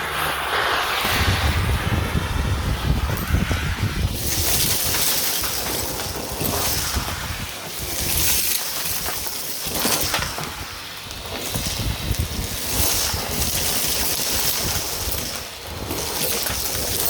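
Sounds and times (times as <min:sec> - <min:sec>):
grit crackling being sucked up: 0:00.0 - 0:17.0
vacuum cleaner running: 0:00.0 - 0:17.0.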